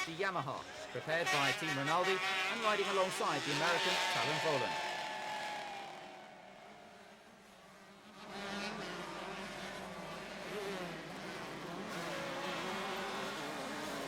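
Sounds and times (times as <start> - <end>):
motocross bike engines racing: 0.0 - 14.0.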